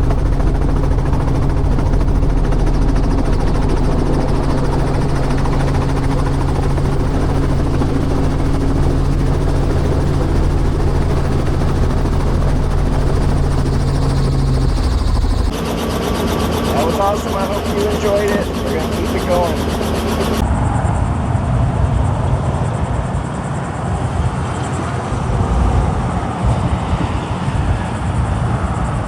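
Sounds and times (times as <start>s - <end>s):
helicopter drone: 0.0s - 29.0s.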